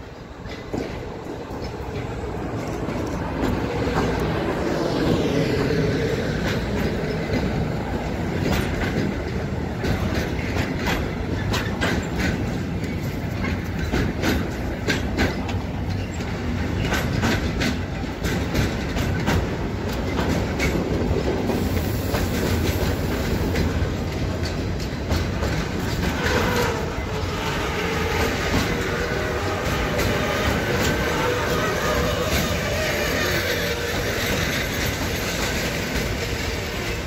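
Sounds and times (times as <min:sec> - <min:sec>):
train wheels rumbling on rails: 0:00.0 - 0:37.0
wheels clicking over rail joints: 0:00.0 - 0:37.0.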